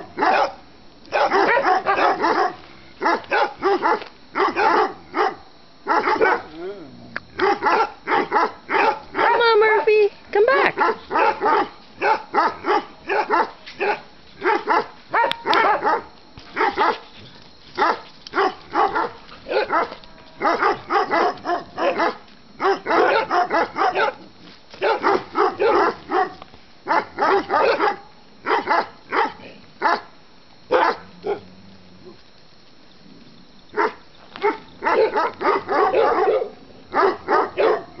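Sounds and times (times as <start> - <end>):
small dogs barking: 0.0 - 6.6, 7.3 - 17.1, 17.8 - 31.5, 33.7 - 38.0.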